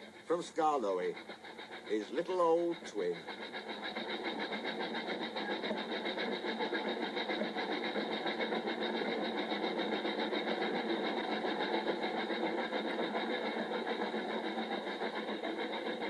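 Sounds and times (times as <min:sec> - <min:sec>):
small motor ticking: 0:00.0 - 0:16.0.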